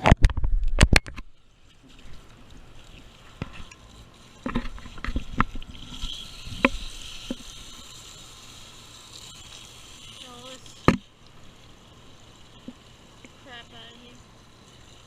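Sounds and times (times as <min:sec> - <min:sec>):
garden hose spraying water: 0:01.3 - 0:15.0.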